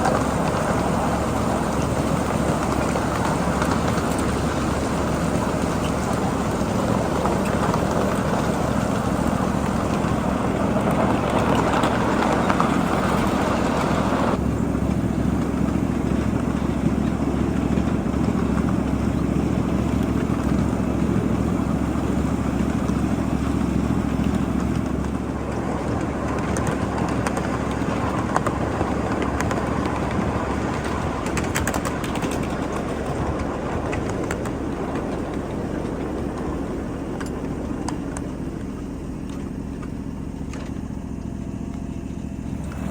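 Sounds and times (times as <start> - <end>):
miniature train wheels rumbling: 0.0 - 42.9.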